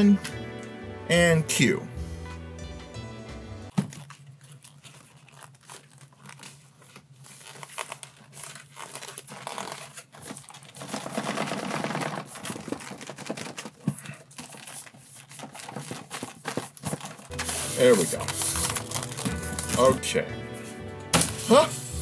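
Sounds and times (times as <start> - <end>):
cardboard and paper rustling: 3.7 - 22.0.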